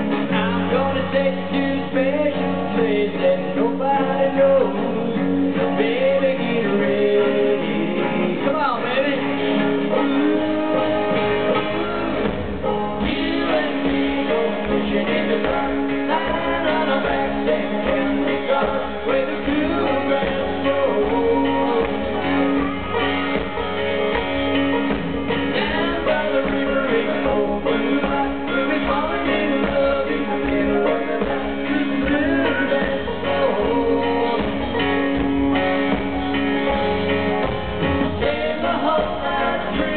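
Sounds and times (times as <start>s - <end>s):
man singing: 0.0s - 23.0s, 24.8s - 35.6s, 38.1s - 39.9s
drums and bass: 0.0s - 39.9s
electric guitar: 0.0s - 39.9s.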